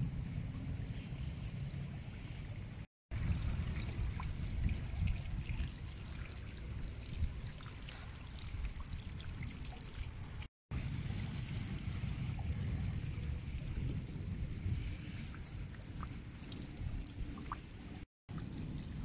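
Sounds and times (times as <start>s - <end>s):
low steady rumble: 0.0s - 19.0s
rainwater trickling off rock: 3.1s - 19.0s.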